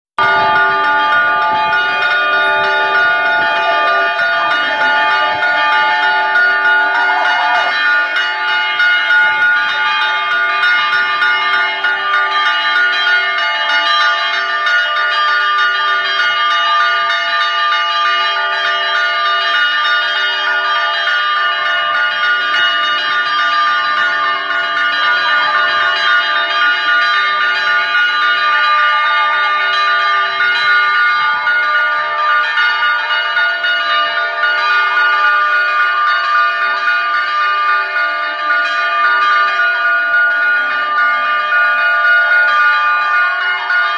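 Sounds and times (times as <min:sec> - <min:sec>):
church bells ringing: 0:00.2 - 0:43.9.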